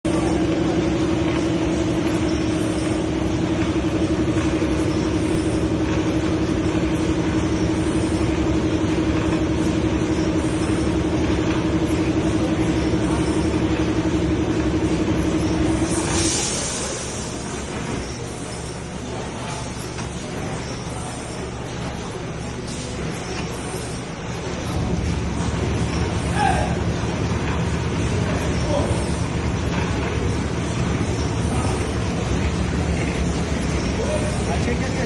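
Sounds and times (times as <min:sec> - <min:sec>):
cutting machine hum and rattle: 0:00.1 - 0:35.0.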